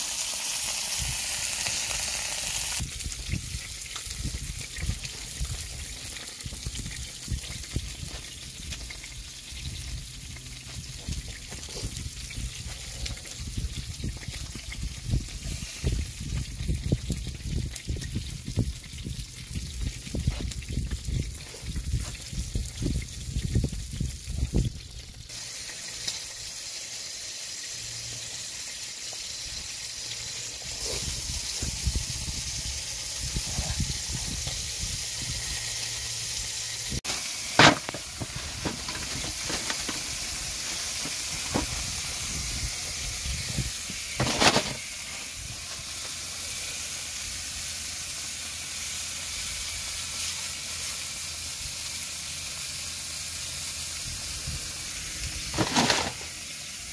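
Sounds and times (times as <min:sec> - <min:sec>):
meat frying in a skillet: 0:00.0 - 0:56.9.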